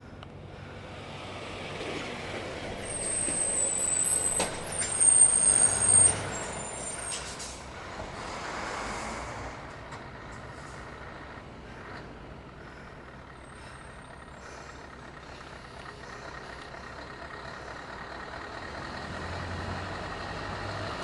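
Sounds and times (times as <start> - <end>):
truck passing by: 0.0 - 21.0.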